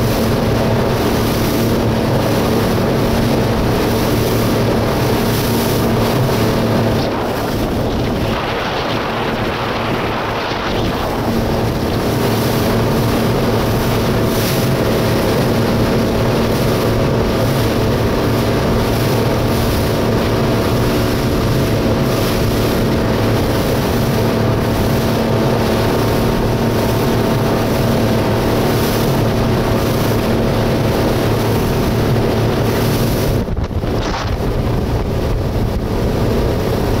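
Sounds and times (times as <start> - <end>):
speedboat engine running: 0.0 - 37.0
water rushing from hull: 0.0 - 37.0
wind buffeting microphone: 0.0 - 37.0.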